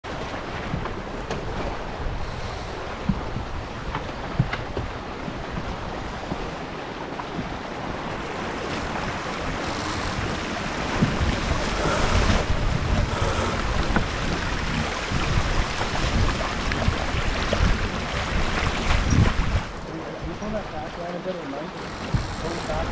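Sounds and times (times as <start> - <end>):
water rushing along hull: 0.0 - 22.9
wind buffeting microphone: 0.1 - 21.0, 21.6 - 22.9.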